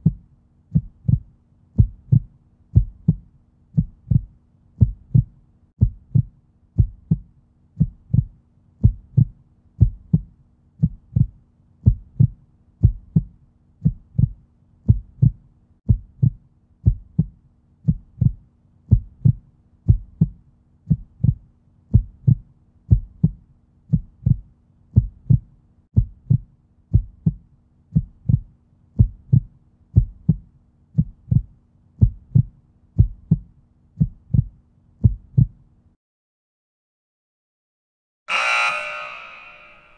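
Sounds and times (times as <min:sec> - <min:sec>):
heartbeat thumps: 0:00.0 - 0:35.6.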